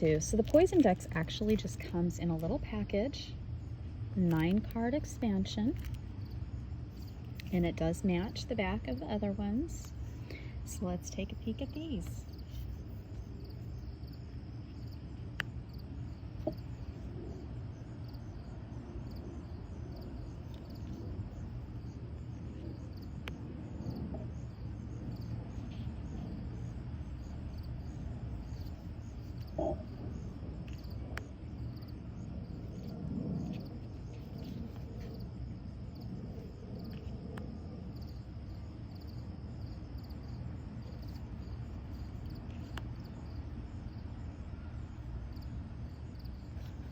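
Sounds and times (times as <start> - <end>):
low background hum: 0.0 - 46.9.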